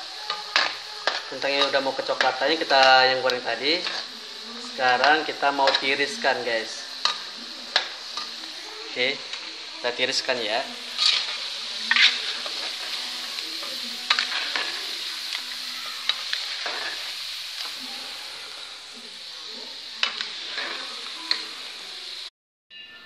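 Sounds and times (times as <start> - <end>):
potatoes sizzling in hot oil: 0.0 - 22.3.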